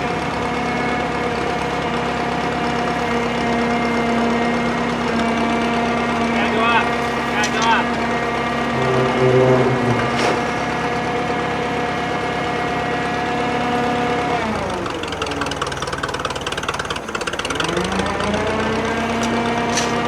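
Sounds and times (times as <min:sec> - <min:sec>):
crane engine running: 0:00.0 - 0:20.0.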